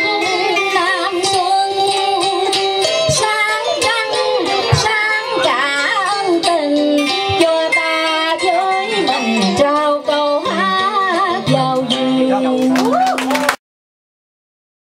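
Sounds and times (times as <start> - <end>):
plucked string accompaniment: 0.0 - 13.5
woman singing with vibrato: 0.0 - 13.6.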